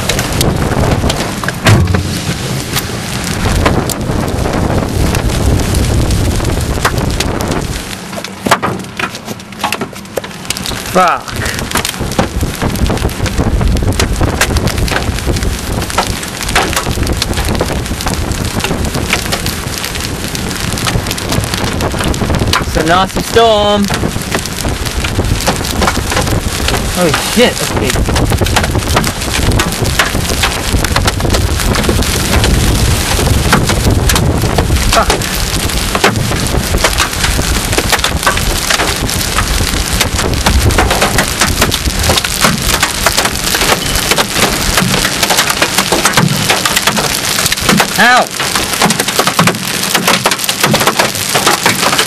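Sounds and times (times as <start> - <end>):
hailstones clattering: 0.0 - 52.0
steady rushing noise: 0.0 - 52.0
wind rumbling on microphone: 0.0 - 52.0.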